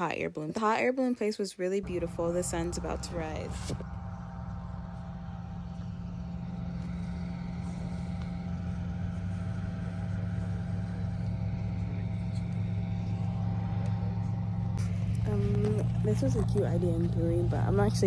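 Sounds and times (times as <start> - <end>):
vehicle engine running: 1.8 - 18.0.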